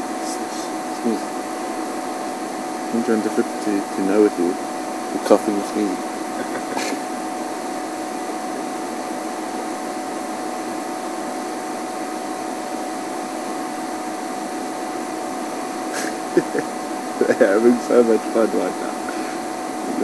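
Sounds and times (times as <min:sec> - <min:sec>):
faint constant tone: 0:00.0 - 0:20.0
steady hiss: 0:00.0 - 0:20.0.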